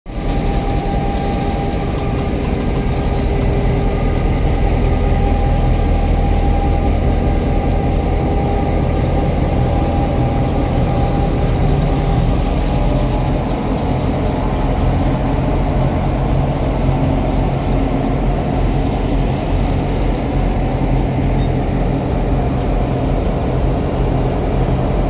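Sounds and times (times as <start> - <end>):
locomotive engines droning: 0.1 - 25.0
wheels rumbling on rails: 0.1 - 25.0.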